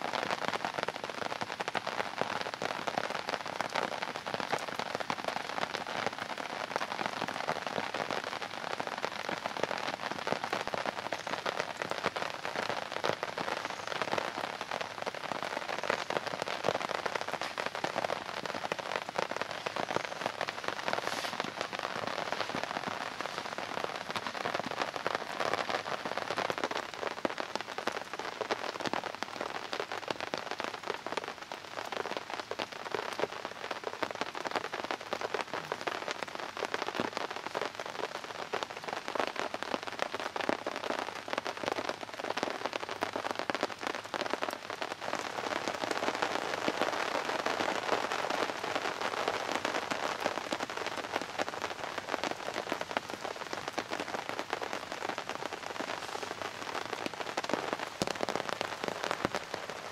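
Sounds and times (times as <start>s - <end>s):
heavy rain on a tarp: 0.0s - 59.9s.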